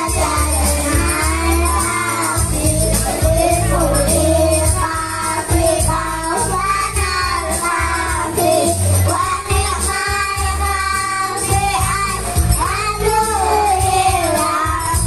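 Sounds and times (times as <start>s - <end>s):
child singing: 0.0s - 15.0s
instrumental accompaniment with bass: 0.0s - 15.0s.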